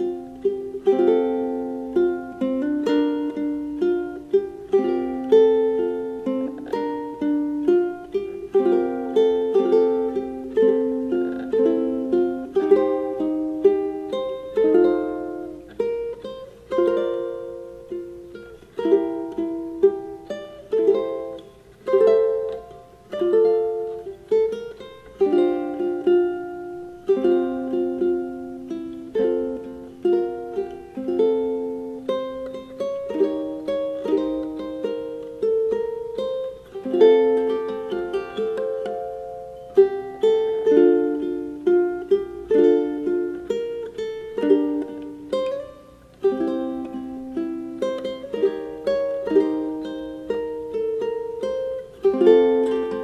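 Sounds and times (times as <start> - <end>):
ukulele plucked and strummed: 0.0 - 53.0.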